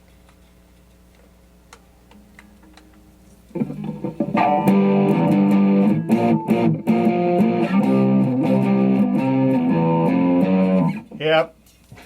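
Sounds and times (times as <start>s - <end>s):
electric guitar through amplifier: 1.7s - 11.5s.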